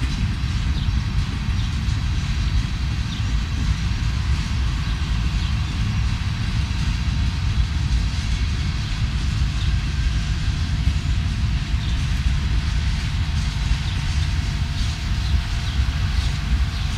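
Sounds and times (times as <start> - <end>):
freight train rumbling past: 0.0 - 16.9.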